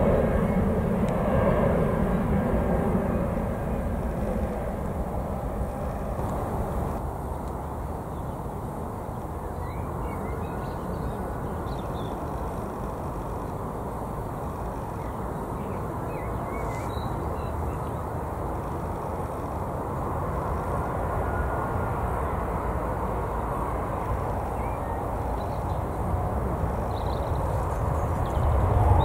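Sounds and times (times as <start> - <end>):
jet engine rumble: 0.0 - 29.0.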